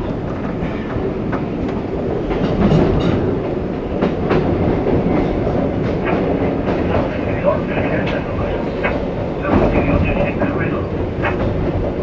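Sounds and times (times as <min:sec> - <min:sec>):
wheels clicking on track: 0:00.0 - 0:12.0.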